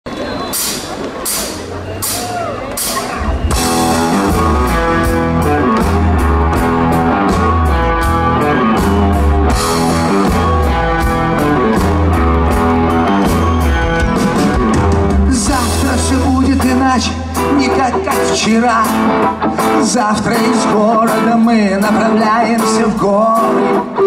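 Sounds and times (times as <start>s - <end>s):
drum kit: 0.1s - 24.0s
electric guitars: 0.1s - 24.0s
bass guitar: 1.2s - 24.0s.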